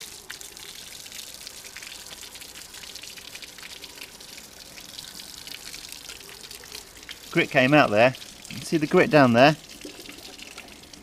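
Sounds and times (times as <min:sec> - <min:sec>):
water splashing and pouring: 0:00.0 - 0:11.0.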